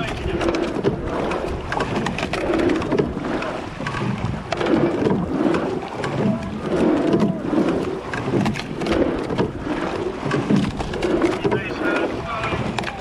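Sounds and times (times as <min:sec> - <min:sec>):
oars working the water: 0:00.0 - 0:13.0
water rushing along a hull: 0:00.0 - 0:13.0.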